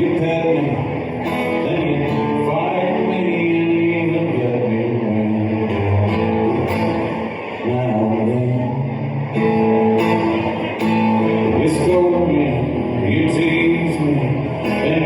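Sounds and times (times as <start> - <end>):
guitar bending notes: 0.0 - 15.0
live country band playing: 0.0 - 15.0.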